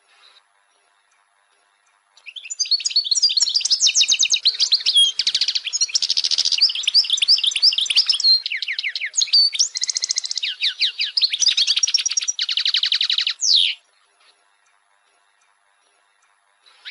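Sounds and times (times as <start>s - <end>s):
finch twittering song: 0.0s - 16.9s.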